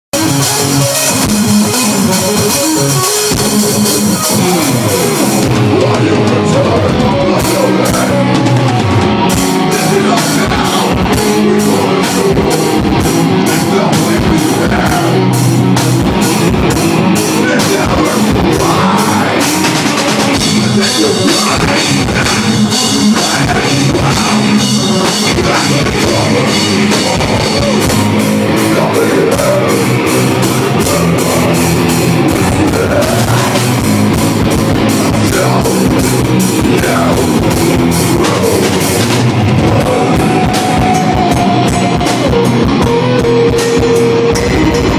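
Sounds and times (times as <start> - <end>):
live rock band playing: 0.0 - 44.9
drum kit hitting fast: 0.1 - 44.9.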